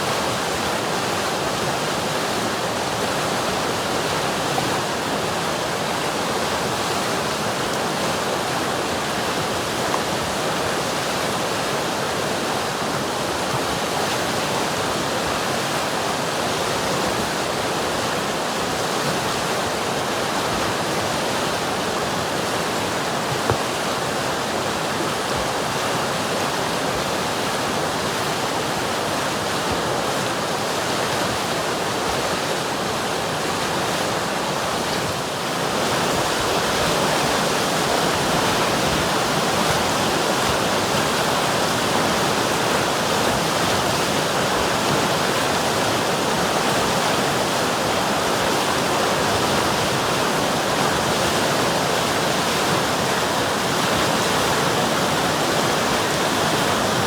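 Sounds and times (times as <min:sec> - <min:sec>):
river water rushing and babbling: 0:00.0 - 0:57.0.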